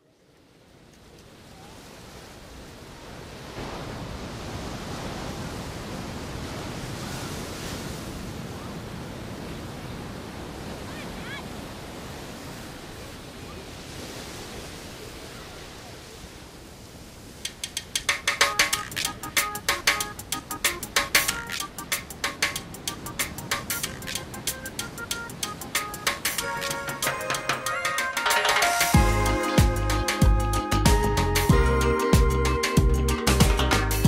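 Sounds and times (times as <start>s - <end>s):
small waves breaking on beach: 0.0s - 27.8s.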